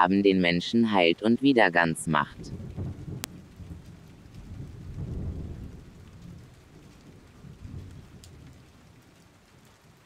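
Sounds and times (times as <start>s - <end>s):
faint rain: 0.0s - 10.0s
thunder rumbling: 1.8s - 10.0s.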